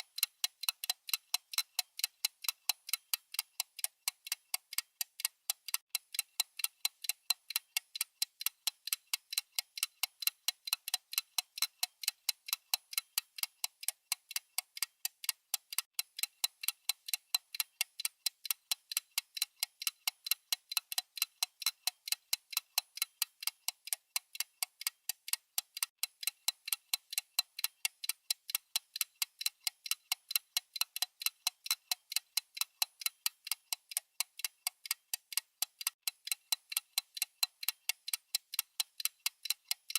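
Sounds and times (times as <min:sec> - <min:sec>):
watch ticking: 0:00.0 - 0:39.9.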